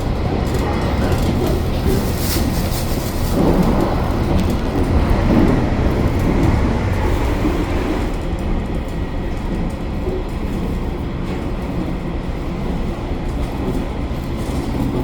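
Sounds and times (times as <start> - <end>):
train engine and wheels rumbling: 0.0 - 15.0.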